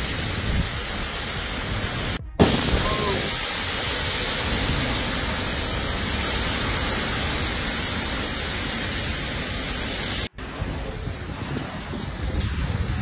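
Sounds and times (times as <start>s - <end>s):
heavy rain: 0.0s - 13.0s
strong wind: 0.0s - 13.0s.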